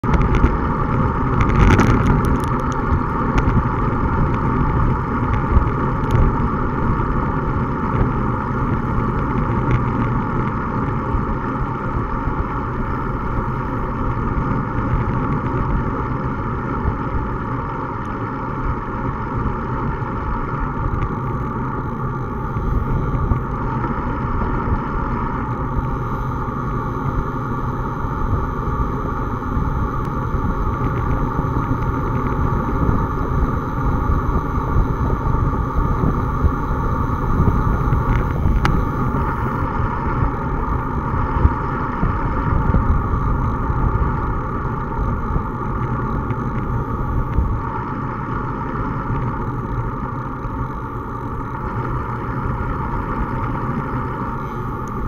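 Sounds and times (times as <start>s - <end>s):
road rumble: 0.0s - 55.0s
wind rush: 0.0s - 55.0s.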